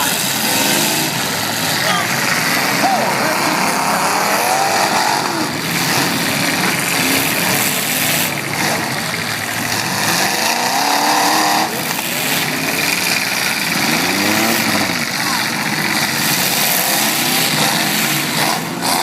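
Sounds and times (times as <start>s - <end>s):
car engines revving: 0.0s - 19.0s
engine climbing in pitch: 0.0s - 19.0s.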